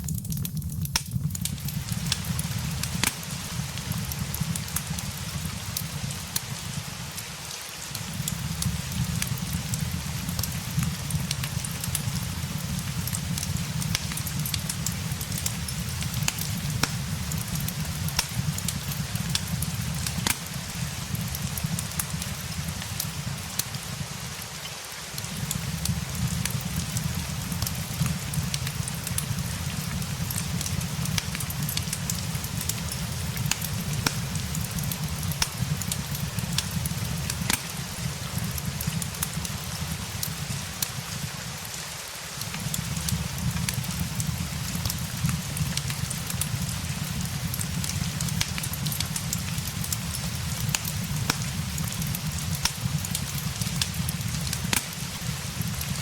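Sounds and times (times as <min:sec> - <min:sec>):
fireplace crackling: 0:00.0 - 0:56.0
steady rain hiss: 0:00.0 - 0:56.0.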